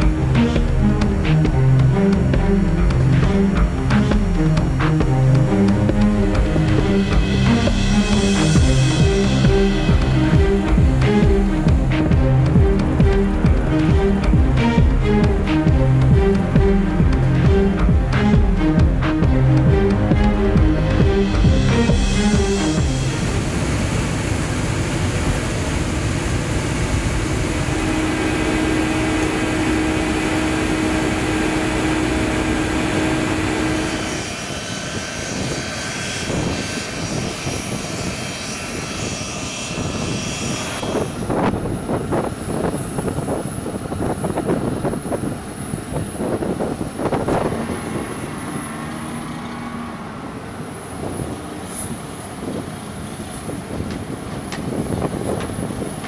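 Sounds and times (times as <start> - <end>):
jet engines rumbling: 0.0 - 56.0
thin high whine: 0.0 - 56.0.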